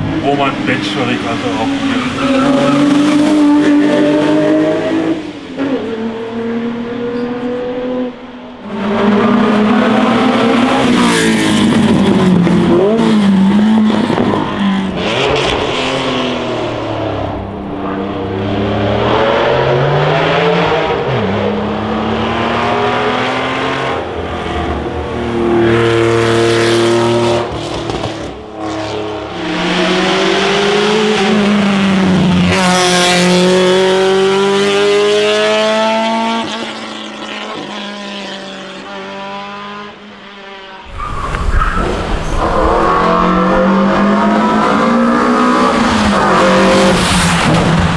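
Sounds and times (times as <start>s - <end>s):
car engines accelerating hard: 0.0s - 47.9s.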